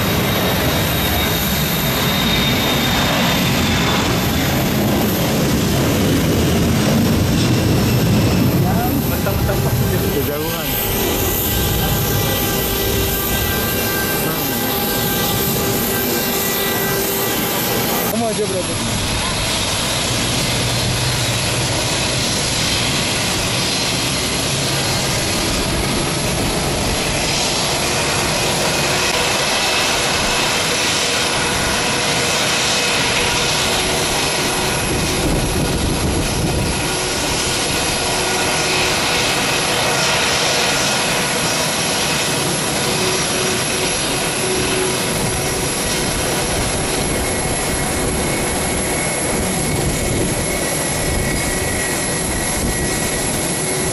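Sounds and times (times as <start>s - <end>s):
jet airliner engines taxiing: 0.0s - 53.9s.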